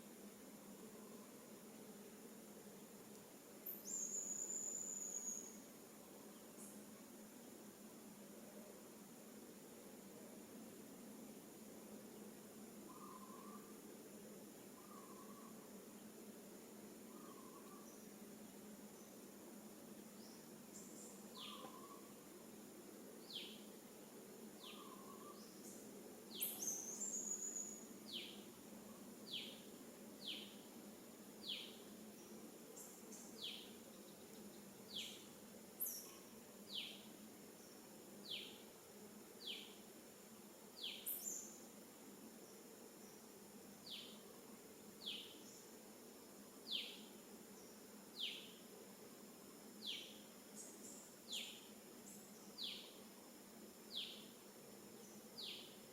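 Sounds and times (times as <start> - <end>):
background hiss: 0.0 - 55.9.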